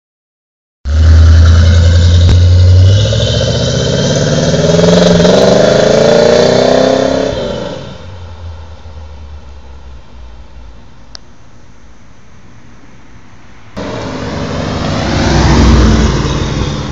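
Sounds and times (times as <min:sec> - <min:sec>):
car engine rumbling and accelerating: 0:00.9 - 0:16.9.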